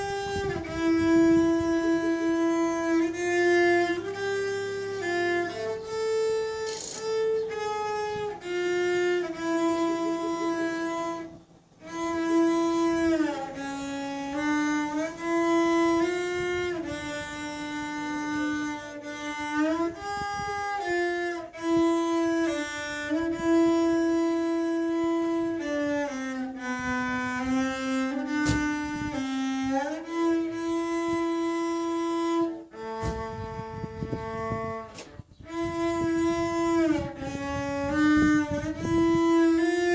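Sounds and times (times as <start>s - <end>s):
solo violin slow melody: 0.0s - 39.9s.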